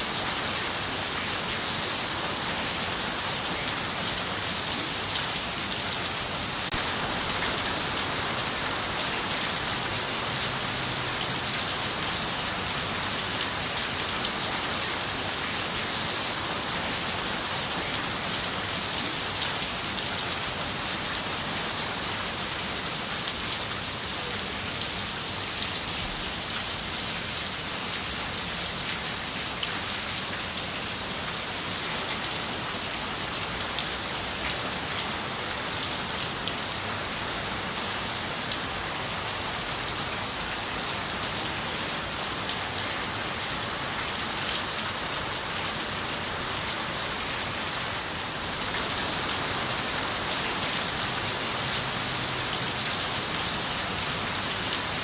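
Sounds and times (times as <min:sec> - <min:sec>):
rain on a window: 0:00.2 - 0:55.0.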